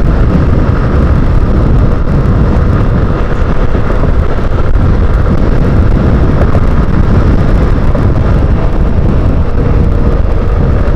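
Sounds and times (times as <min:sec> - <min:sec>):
motorcycle engine cruising: 0:00.0 - 0:10.9
wind on microphone: 0:00.0 - 0:10.9.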